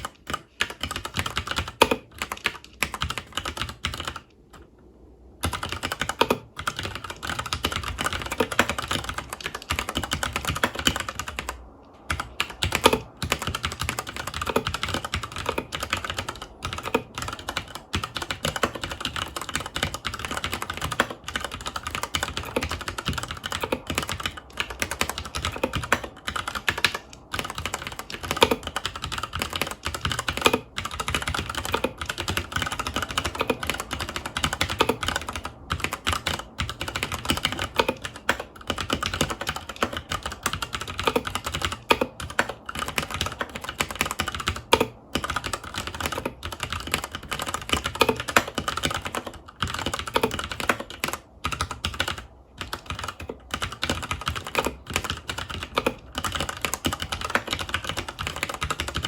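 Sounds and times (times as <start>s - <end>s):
fast mechanical keyboard typing: 0.0s - 4.3s, 5.4s - 59.0s.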